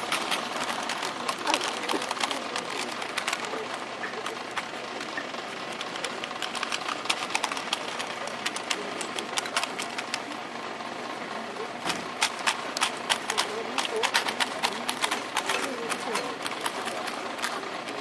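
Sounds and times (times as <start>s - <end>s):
rifles and boots clicking and knocking: 0.0s - 10.4s, 11.8s - 18.0s
murmur of spectators: 0.0s - 18.0s.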